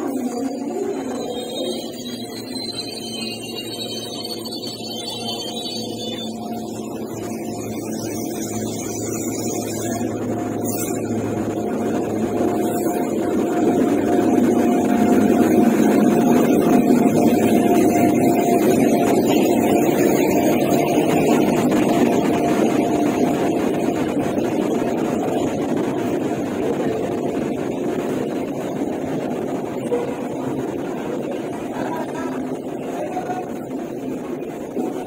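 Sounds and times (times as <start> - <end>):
steady locomotive tone: 0.0 - 35.0
train wheels rumbling past: 0.0 - 35.0.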